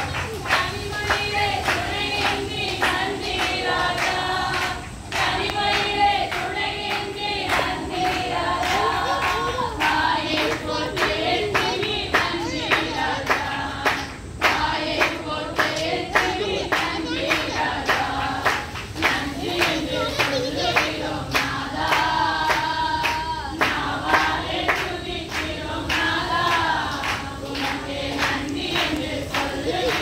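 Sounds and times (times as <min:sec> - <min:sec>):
song with singing voices: 0:00.0 - 0:30.0.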